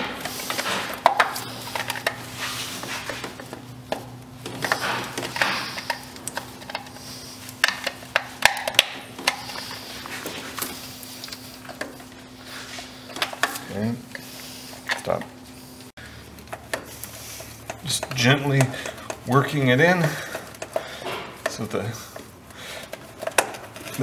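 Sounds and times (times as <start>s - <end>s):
gloves rustling: 0.0s - 24.0s.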